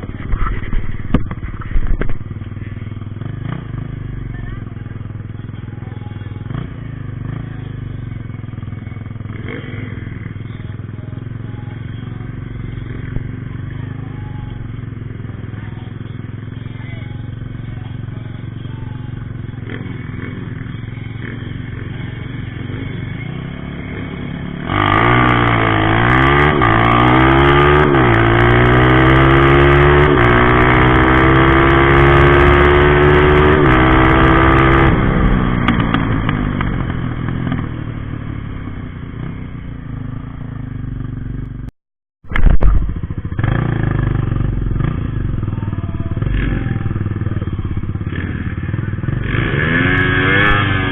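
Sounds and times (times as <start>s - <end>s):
motorcycle accelerating through gears: 0.0s - 4.4s, 5.0s - 41.7s, 42.3s - 50.9s
motorcycle engine revving: 0.0s - 41.7s, 42.3s - 50.9s.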